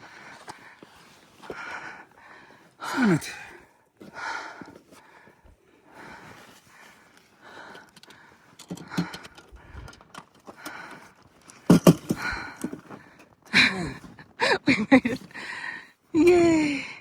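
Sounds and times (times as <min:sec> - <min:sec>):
person panting hard: 0:00.0 - 0:14.6, 0:15.3 - 0:15.9.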